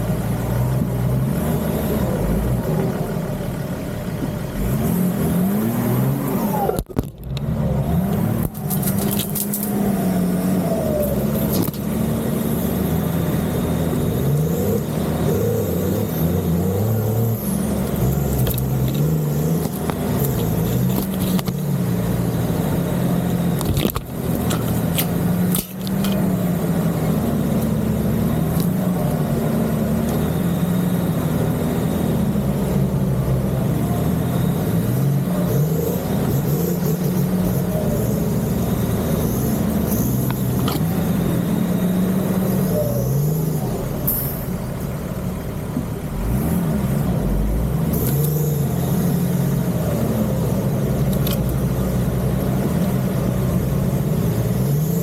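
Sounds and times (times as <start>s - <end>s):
off-road engine revving: 0.0s - 55.0s.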